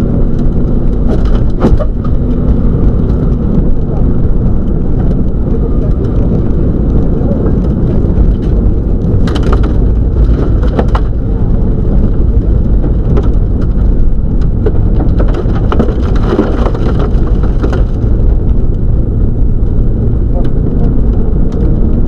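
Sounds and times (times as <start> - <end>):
gravel striking car underbody: 0.0 - 3.7, 7.8 - 22.0
car engine and road noise: 0.0 - 22.0.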